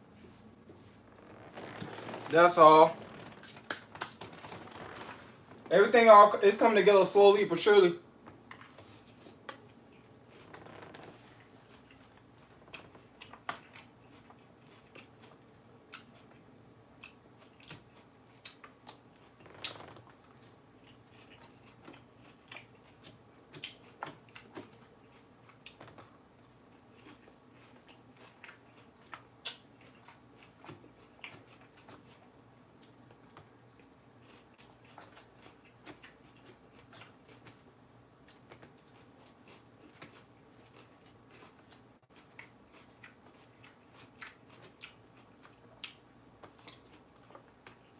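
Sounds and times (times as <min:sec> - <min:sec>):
chewing crunchy lettuce: 0:08.3 - 0:47.9.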